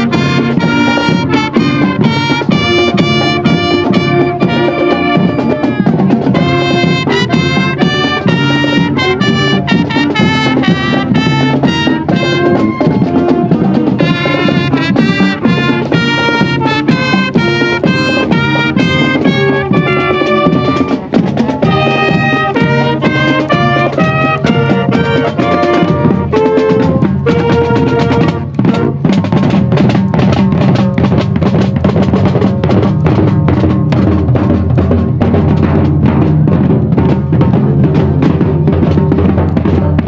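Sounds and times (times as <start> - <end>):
horns and woodwinds playing tune: 0.0 - 40.0
snare and bass drum cadence: 0.0 - 40.0.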